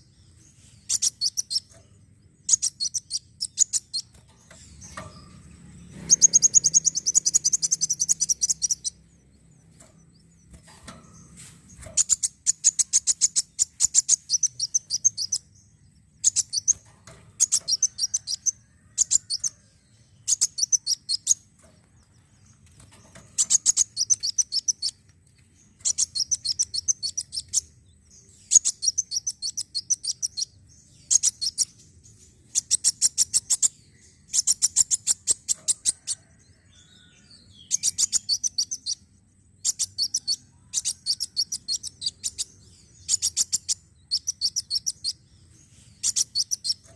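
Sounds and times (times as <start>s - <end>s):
sunbird singing: 0.0s - 46.9s.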